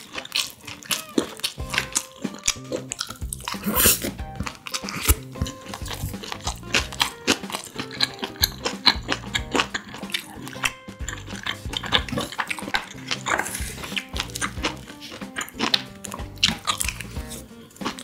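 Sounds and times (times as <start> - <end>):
background music: 0.0 - 18.0
close chewing and mouth sounds: 0.0 - 18.0.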